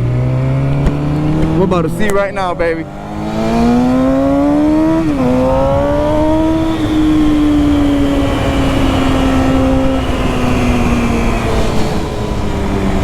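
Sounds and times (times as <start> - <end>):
motorcycle engine at speed: 0.0 - 13.0
wind noise: 0.0 - 13.0.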